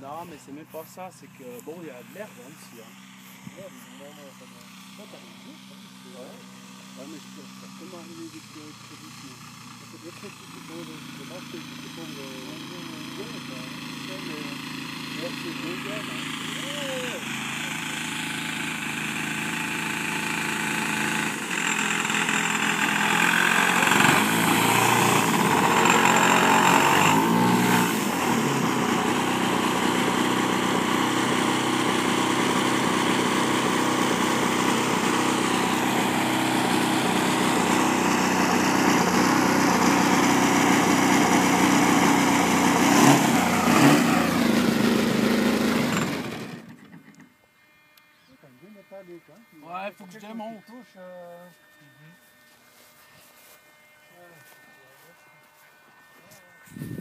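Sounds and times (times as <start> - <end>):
model plane engine and propeller: 0.0 - 57.0.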